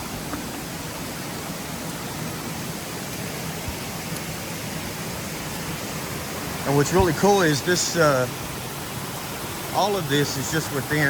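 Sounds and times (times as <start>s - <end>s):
waterfalls pouring into river: 0.0s - 11.0s.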